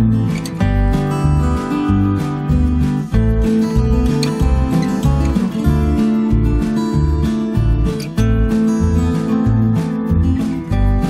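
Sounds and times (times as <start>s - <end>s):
acoustic guitar strumming: 0.0s - 11.0s
steady bass beat: 0.0s - 11.0s.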